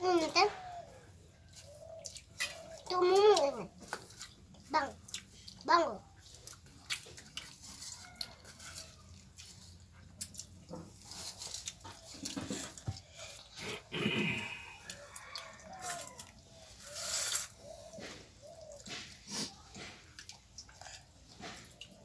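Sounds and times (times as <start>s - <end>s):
fingers mixing wet rice: 0.5s - 22.0s.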